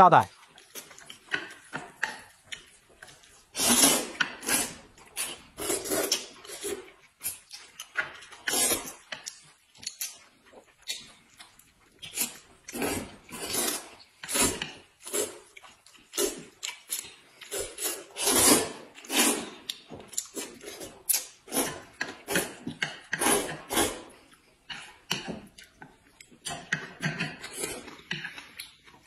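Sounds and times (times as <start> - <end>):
noodles being slurped: 0.4 - 11.3, 11.9 - 25.2, 26.3 - 28.8.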